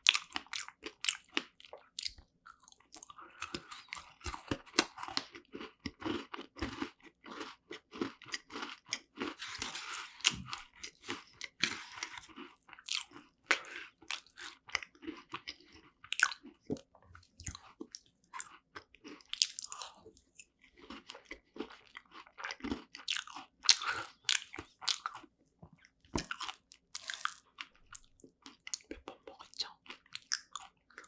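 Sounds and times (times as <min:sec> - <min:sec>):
chewing and crunching pastry: 0:00.0 - 0:31.0.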